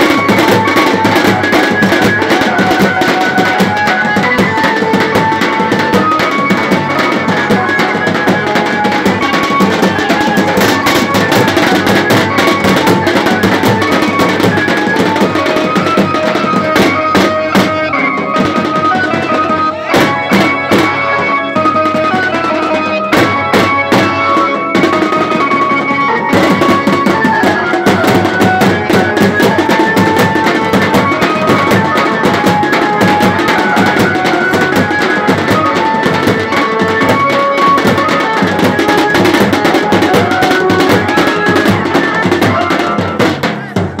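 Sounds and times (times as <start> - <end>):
high melody line: 0.0 - 43.8
fast loud drumming: 0.0 - 44.0.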